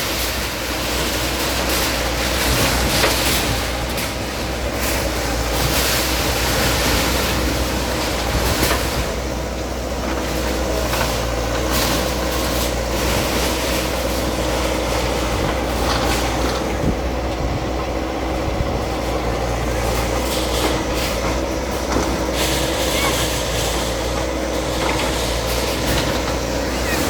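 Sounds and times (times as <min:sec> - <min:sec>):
bulldozer diesel engine running: 0:00.0 - 0:27.0
demolition knocks and clatters: 0:00.0 - 0:27.0.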